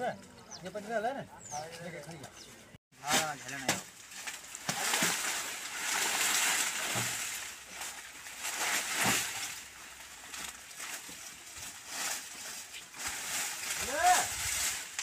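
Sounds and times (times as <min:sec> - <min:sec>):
dry leaves rustling and crackling: 0:03.0 - 0:15.0.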